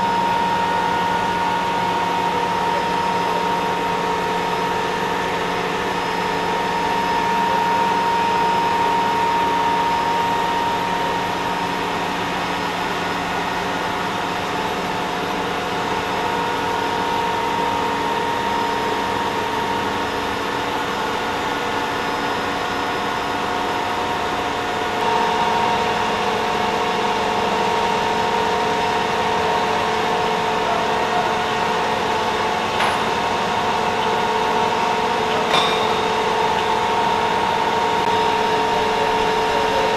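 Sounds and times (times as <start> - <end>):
heavy machinery humming: 0.0 - 39.9.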